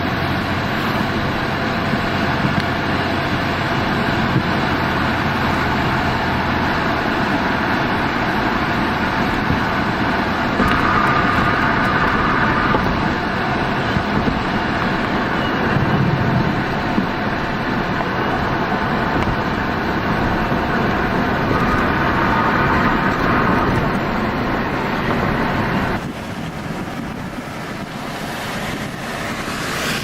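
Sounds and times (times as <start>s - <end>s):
car road and engine noise: 0.0s - 30.0s.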